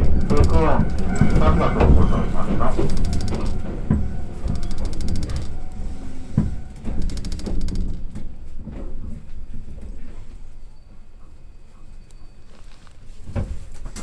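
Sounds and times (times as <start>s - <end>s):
train rumbling in motion: 0.0s - 14.0s.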